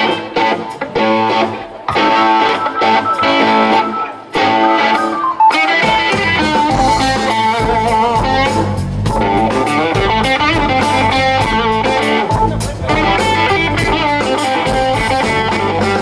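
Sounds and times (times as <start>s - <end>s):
bass guitar: 0.0s - 16.0s
drums: 0.0s - 16.0s
electric guitar: 0.0s - 16.0s.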